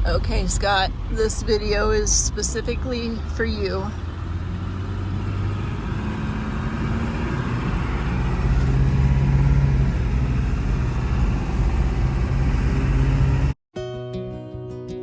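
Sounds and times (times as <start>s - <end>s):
road noise: 0.0s - 13.6s
vehicle engine running: 0.0s - 13.6s.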